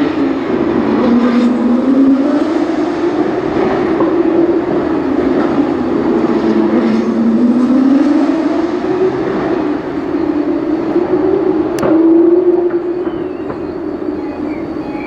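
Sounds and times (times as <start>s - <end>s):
race car engine passing: 0.0s - 15.0s.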